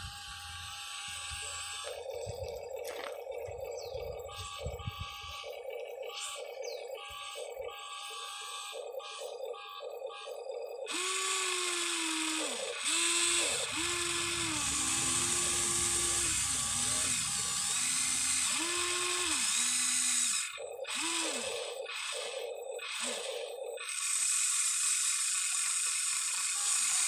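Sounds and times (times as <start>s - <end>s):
toy excavator motors whining: 0.0s - 27.0s.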